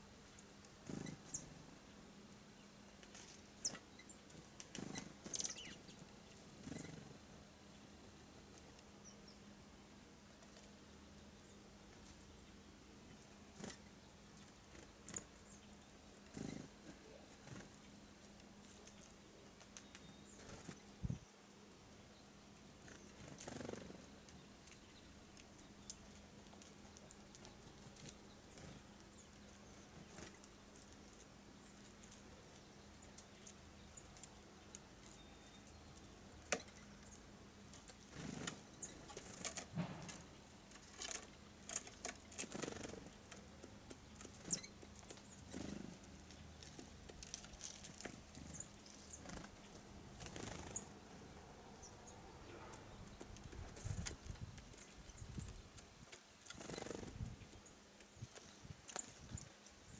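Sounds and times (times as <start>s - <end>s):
faint steady hum: 0.0s - 59.9s
birds tapping at feeders: 0.3s - 1.7s, 3.0s - 7.2s, 10.4s - 21.2s, 22.7s - 59.9s.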